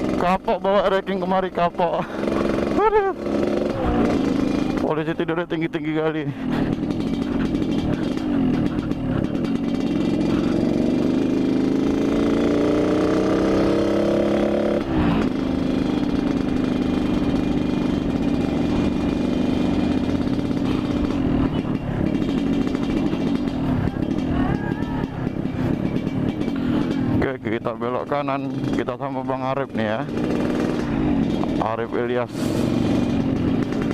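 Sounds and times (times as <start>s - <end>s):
two-stroke motorcycle engine: 0.0s - 33.9s.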